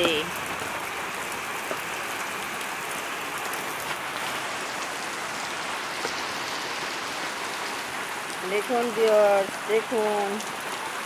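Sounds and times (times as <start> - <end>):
heavy rain on street: 0.0 - 11.0.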